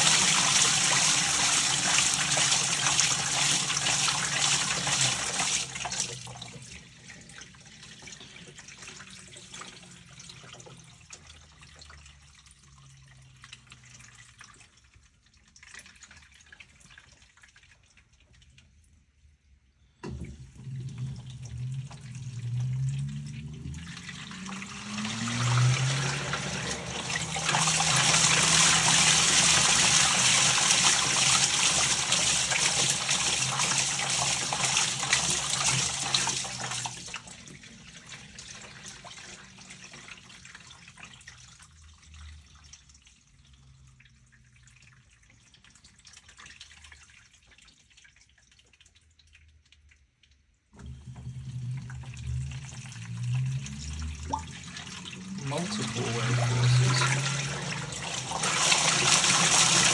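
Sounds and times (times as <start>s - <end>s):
water rushing into tub: 0.0s - 18.8s, 20.0s - 49.4s, 50.7s - 59.9s
washing machine hum: 0.0s - 49.9s, 50.6s - 59.9s
water trickling and sloshing: 0.0s - 59.9s.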